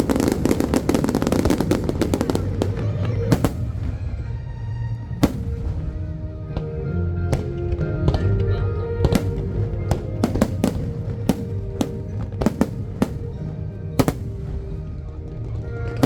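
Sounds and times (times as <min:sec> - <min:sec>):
fireworks bangs: 0:00.0 - 0:06.7, 0:07.3 - 0:08.5, 0:09.1 - 0:16.0
music: 0:00.0 - 0:16.0.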